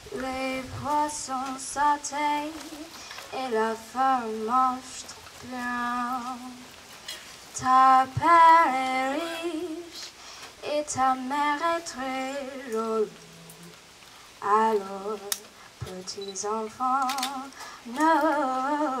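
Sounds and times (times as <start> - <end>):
woman singing unaccompanied: 0.0 - 6.8, 7.5 - 19.0.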